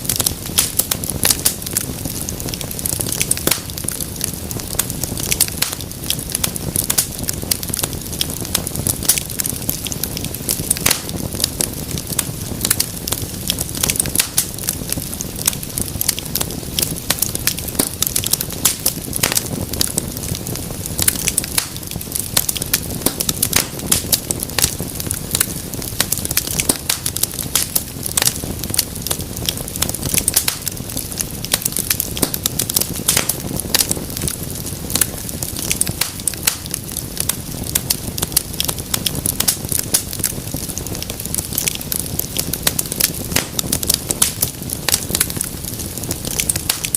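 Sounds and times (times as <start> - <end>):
low rumble of flames: 0.0 - 46.9
wood fire crackling: 0.0 - 46.9.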